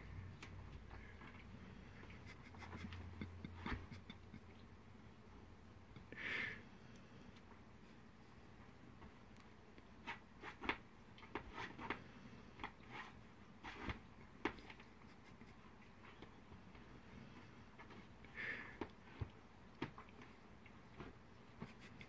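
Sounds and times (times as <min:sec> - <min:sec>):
quiet room hum: 0:00.0 - 0:22.0.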